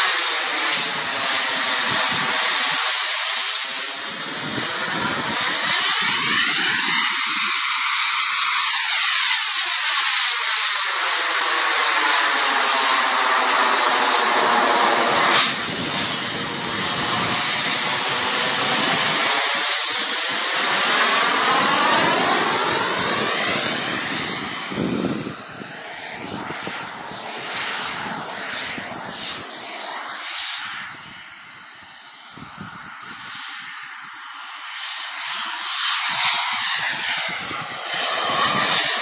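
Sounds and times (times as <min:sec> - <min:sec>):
jet aircraft flying overhead: 0:00.0 - 0:39.0.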